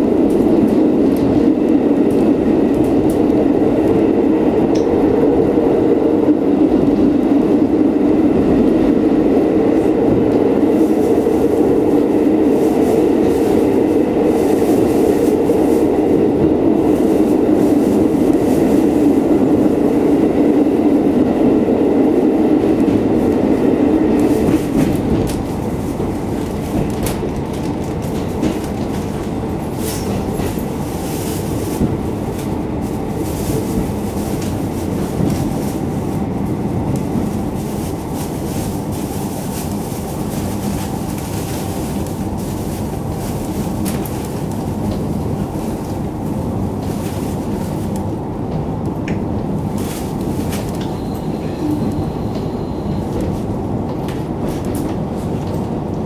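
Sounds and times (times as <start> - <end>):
railcar engine drone: 0.0 - 56.0
wheels rumbling on rails: 0.0 - 56.0.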